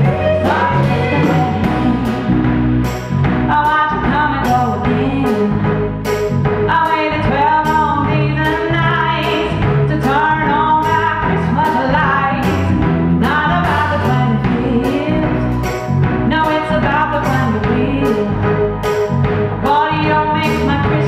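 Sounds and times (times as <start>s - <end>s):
woman singing: 0.0s - 2.5s, 3.5s - 5.8s, 6.7s - 18.6s, 19.6s - 21.0s
band accompaniment: 0.0s - 21.0s
steady drum beat: 0.0s - 21.0s.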